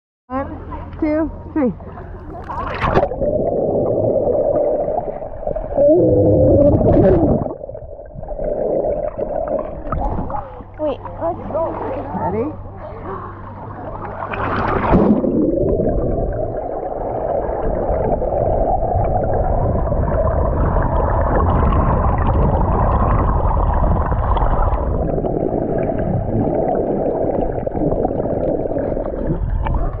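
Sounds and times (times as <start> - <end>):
muffled underwater rushing: 1.4 - 30.0.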